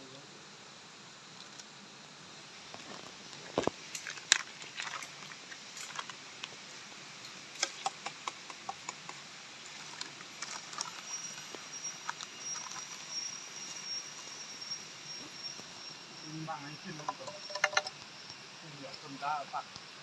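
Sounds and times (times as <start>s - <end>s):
insect high-pitched call: 2.4s - 20.0s.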